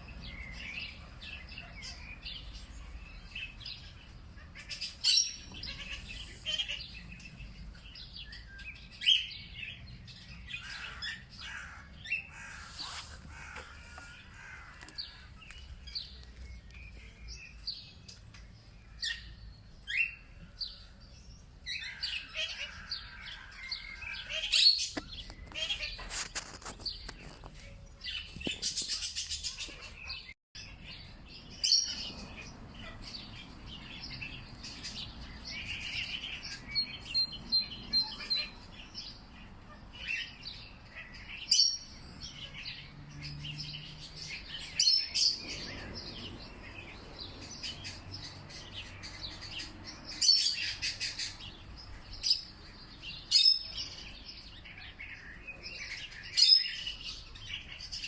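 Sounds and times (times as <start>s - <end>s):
wild birds chirping and singing: 0.0s - 58.0s.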